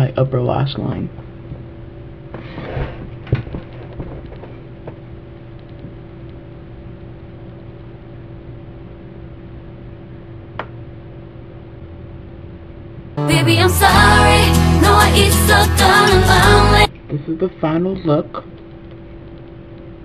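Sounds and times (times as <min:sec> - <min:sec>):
low room hum: 0:00.0 - 0:13.2, 0:16.4 - 0:20.0.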